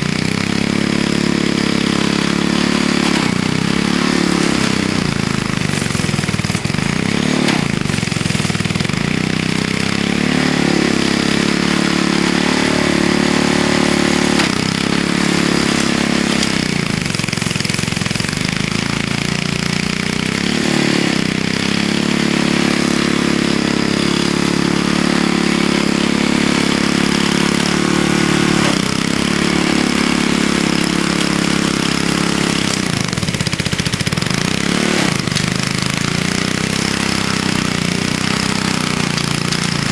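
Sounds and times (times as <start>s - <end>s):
snowblower engine bogging down: 0.0s - 39.9s.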